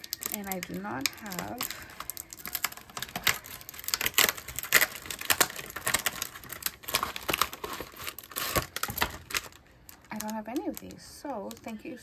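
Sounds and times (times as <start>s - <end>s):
paper packaging crackling: 0.0s - 12.0s.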